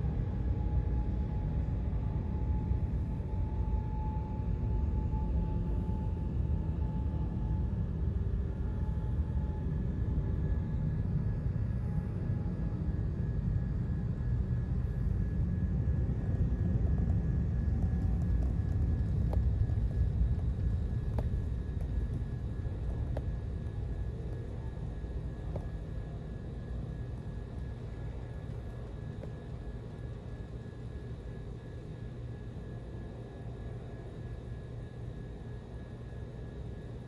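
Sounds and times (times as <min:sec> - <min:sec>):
faint high whine: 0:00.0 - 0:37.0
jet engines low rumble: 0:00.0 - 0:37.0.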